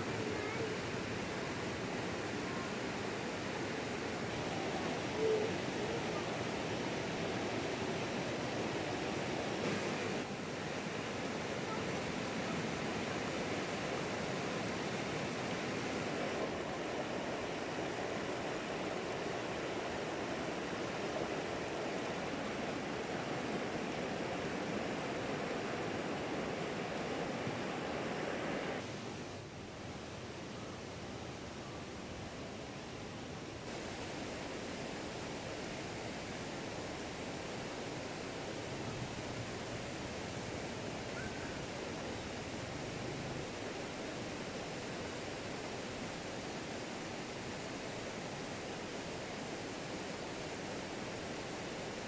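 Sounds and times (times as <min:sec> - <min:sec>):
flowing water rushing: 0:00.0 - 0:52.0.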